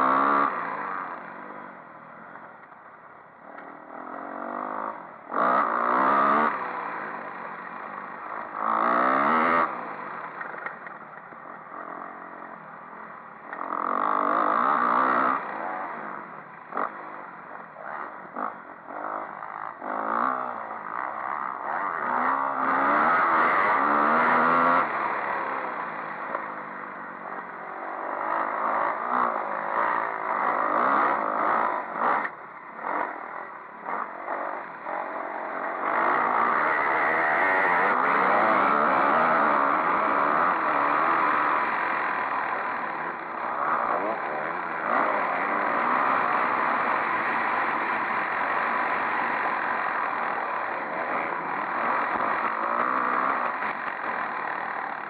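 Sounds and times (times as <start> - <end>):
dirt bike engine revving: 0.0 - 1.6, 3.4 - 55.0.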